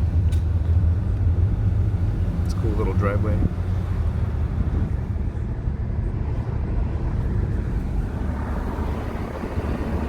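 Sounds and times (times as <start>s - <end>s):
engine and tyre rumble in cabin: 0.0s - 10.0s.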